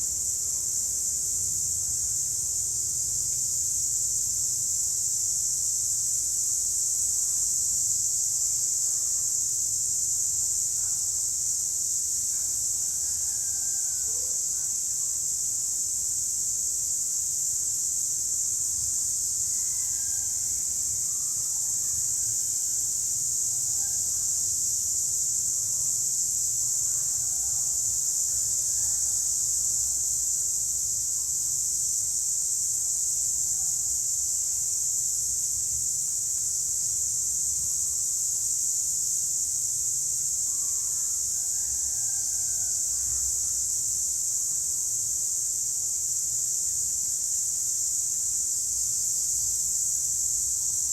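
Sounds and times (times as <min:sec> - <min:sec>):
cicadas buzzing: 0:00.0 - 0:50.9.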